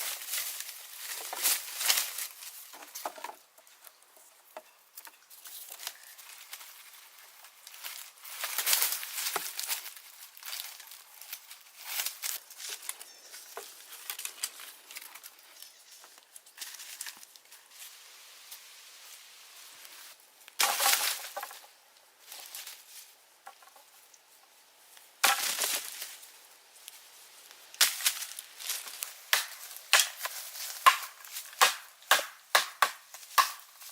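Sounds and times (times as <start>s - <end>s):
dry plants rustling and crinkling: 0.0s - 33.9s.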